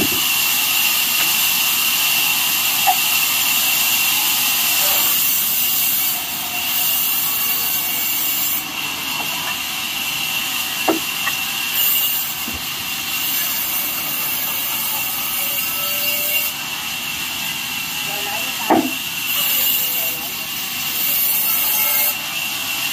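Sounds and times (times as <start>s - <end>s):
band saw cutting wood: 0.0s - 22.9s.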